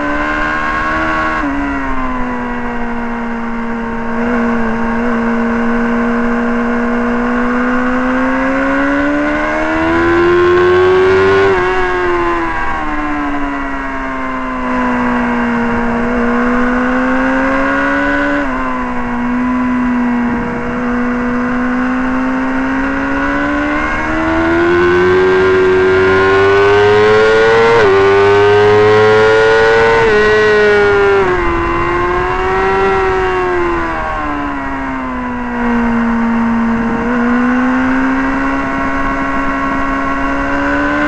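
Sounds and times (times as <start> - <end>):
motorcycle engine at high revs: 0.0 - 41.0.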